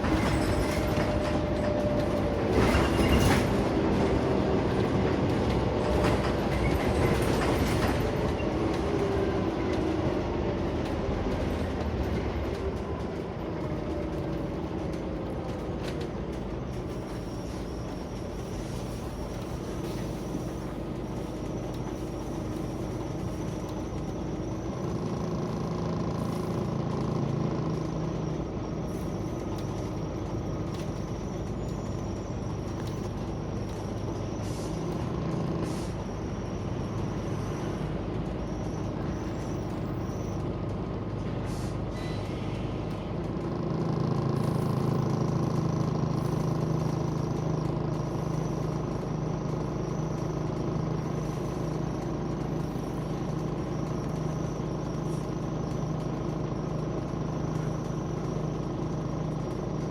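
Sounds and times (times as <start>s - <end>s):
bus engine hum: 0.0s - 59.9s.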